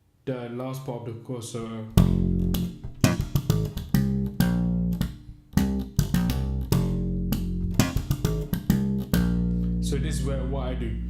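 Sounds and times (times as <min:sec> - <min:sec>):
plucked electric bass notes: 0:01.9 - 0:11.0.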